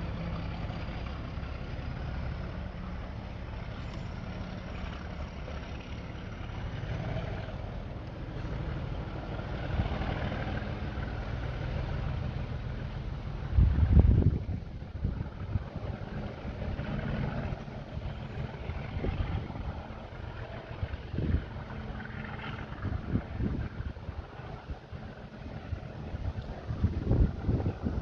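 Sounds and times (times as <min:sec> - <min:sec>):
diesel locomotive engine running: 0:00.0 - 0:28.0.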